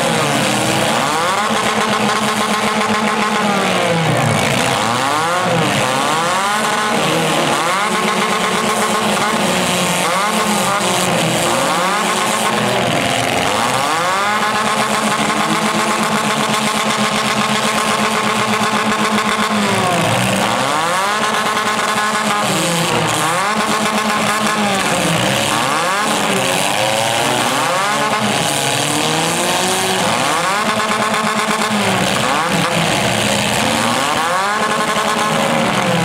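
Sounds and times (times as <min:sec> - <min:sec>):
car engines revving hard: 0:00.0 - 0:36.0.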